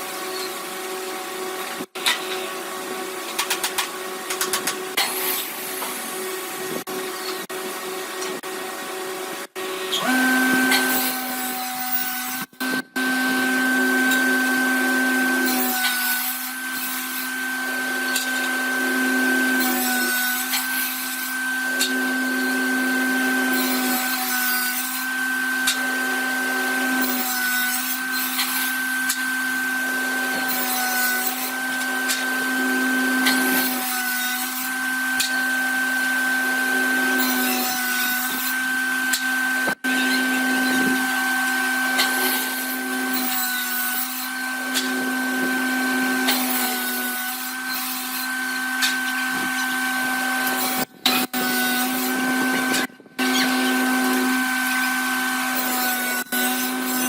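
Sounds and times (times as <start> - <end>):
power tool motor hum: 3.2 - 57.0.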